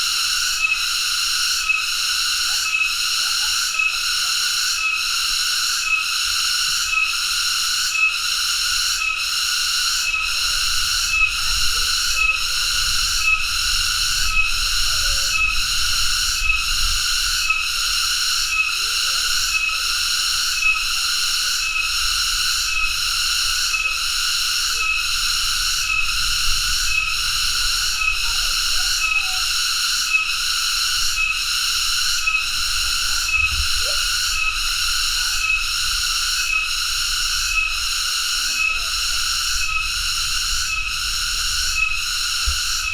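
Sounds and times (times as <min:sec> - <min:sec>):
cicada buzzing: 0:00.0 - 0:42.9.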